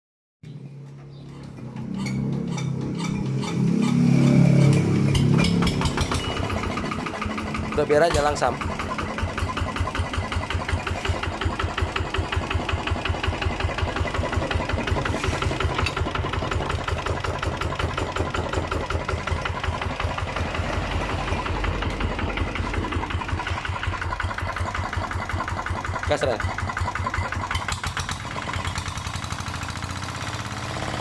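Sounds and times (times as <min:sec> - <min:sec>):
diesel engine idling with knocking: 0:04.6 - 0:31.0.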